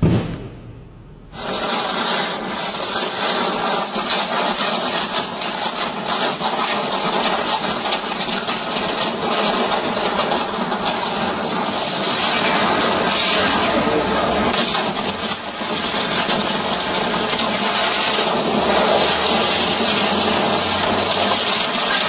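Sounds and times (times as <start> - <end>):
electrical arc crackling hiss: 1.3 - 22.0.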